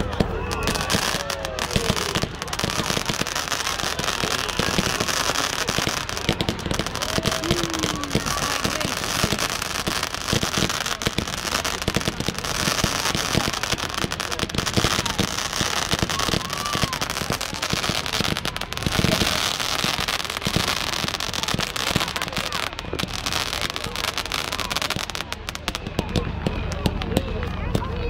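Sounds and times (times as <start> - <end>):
fireworks crackling and banging: 0.0 - 28.0.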